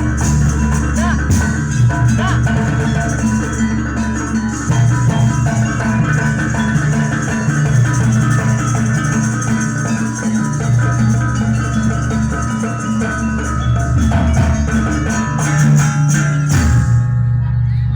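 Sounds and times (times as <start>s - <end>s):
driving drum beat: 0.0s - 17.2s
gamelan metallic percussion: 0.0s - 17.9s.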